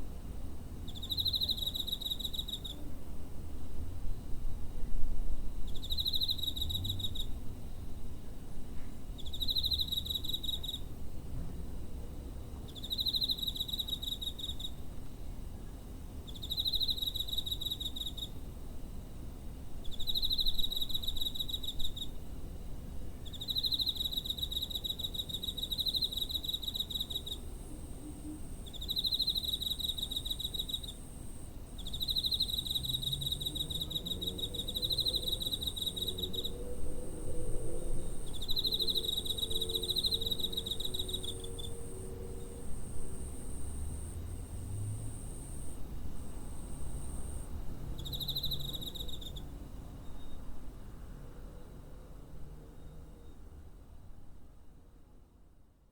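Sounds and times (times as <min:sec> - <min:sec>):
cricket chirping trills: 0:00.8 - 0:02.9, 0:05.5 - 0:08.0, 0:09.2 - 0:11.0, 0:11.8 - 0:53.7.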